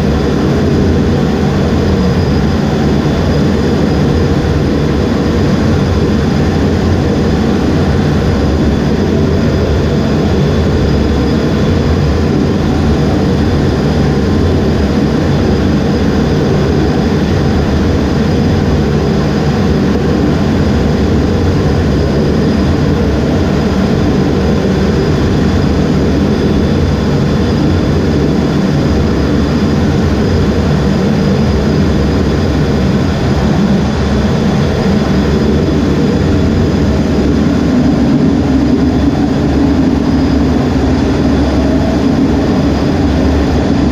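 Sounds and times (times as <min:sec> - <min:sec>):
faint high whine: 0:00.0 - 0:43.9
jet engines deep rumble: 0:00.0 - 0:43.9.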